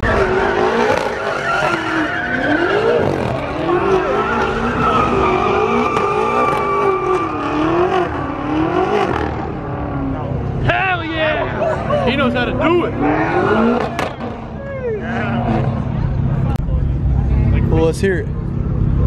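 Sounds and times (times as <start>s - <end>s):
tyres spinning and squealing: 0.0s - 10.4s, 11.1s - 16.5s
car engine revving: 0.0s - 19.0s.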